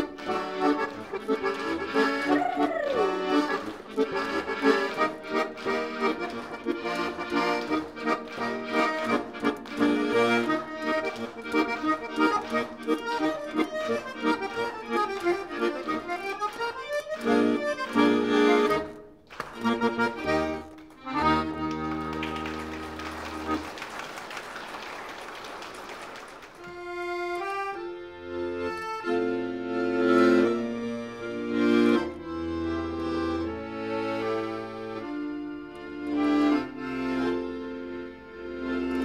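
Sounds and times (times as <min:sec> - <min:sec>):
piano accordion solo: 0:00.0 - 0:23.9, 0:26.6 - 0:39.0.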